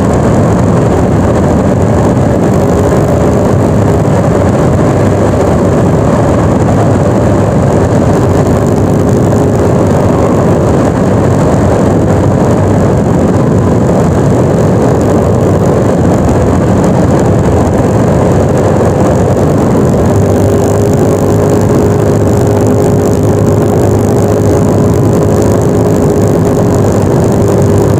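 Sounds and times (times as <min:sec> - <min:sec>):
scooter engine running: 0:00.0 - 0:27.9
wind and road noise: 0:00.0 - 0:27.9.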